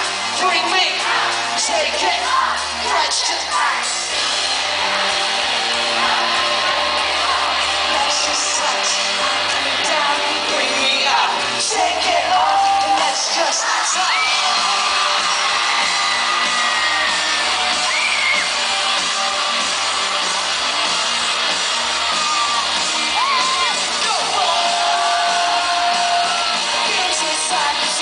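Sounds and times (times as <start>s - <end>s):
crowd shouting and screaming: 0.0s - 28.0s
live pop-rock band playing: 0.0s - 28.0s.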